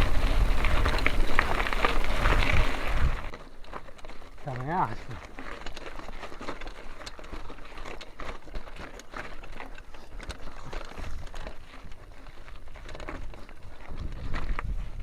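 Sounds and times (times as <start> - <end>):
mountain bike rattling: 0.0 - 15.0
wind and ground rumble: 0.0 - 15.0.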